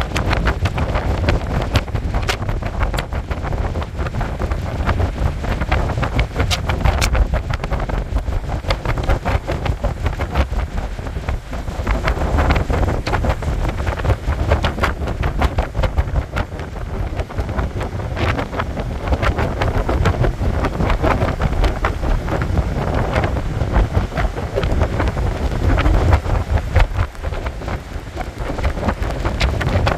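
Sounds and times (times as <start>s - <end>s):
heavy surf breaking: 0.0s - 29.9s
wind buffeting microphone: 0.0s - 29.9s.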